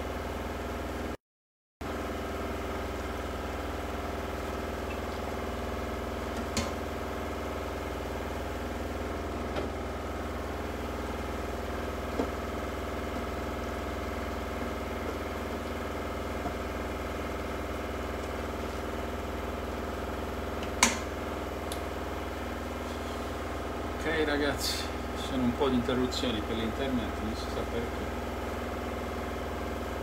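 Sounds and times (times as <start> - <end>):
mechanical hum: 1.8 - 30.0.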